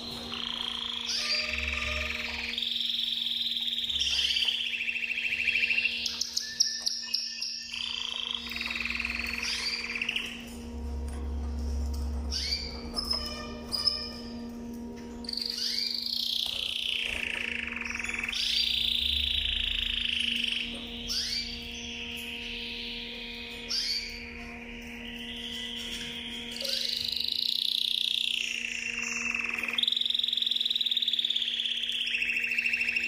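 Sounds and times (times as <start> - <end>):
canary singing trills: 0.0 - 11.0, 11.6 - 33.0.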